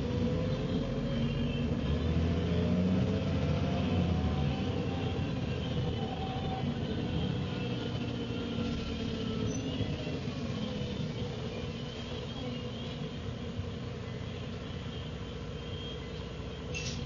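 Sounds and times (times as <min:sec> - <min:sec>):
bus engine running: 0:00.0 - 0:17.0
faint axle whine: 0:00.0 - 0:17.0.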